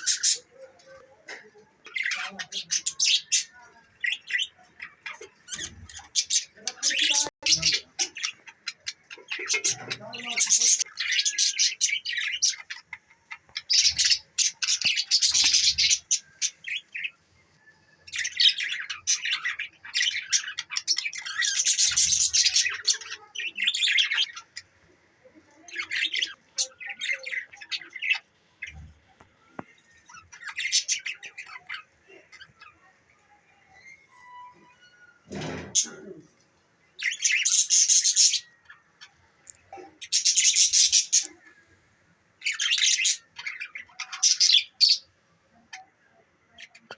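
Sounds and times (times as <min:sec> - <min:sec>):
budgerigars chattering and chirping: 0:00.0 - 0:00.8, 0:01.8 - 0:17.2, 0:18.1 - 0:24.8, 0:25.5 - 0:29.0, 0:29.7 - 0:32.9, 0:34.8 - 0:36.2, 0:37.0 - 0:41.6, 0:42.4 - 0:46.9.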